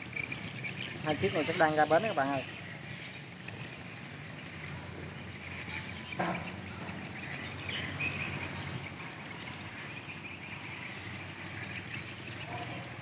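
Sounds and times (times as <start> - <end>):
birds chirping: 0.0 - 13.0
boat engine hum: 0.0 - 13.0.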